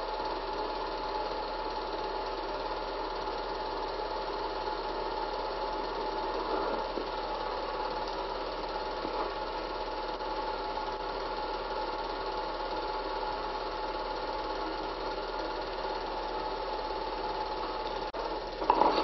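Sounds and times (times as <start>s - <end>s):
film projector whirring: 0.0s - 19.0s
low mains hum: 0.0s - 19.0s.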